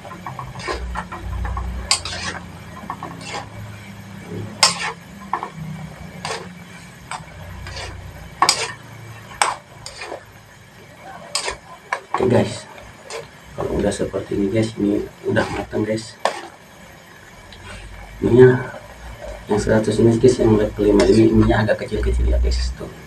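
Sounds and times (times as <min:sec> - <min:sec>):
water boiling: 0:00.0 - 0:23.0.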